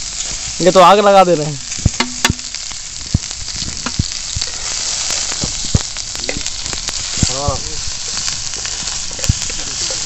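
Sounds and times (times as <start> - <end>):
onion sizzling in hot oil: 0.0 - 10.0
oil popping: 1.6 - 10.0.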